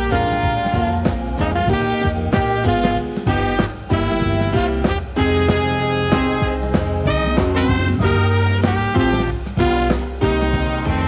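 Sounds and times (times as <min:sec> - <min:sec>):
upbeat jazzy music: 0:00.0 - 0:11.0.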